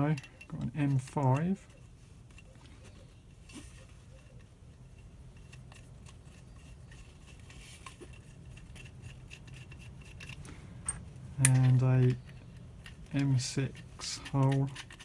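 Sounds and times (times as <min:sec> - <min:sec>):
metal tools clicking and scraping: 0:00.0 - 0:15.0.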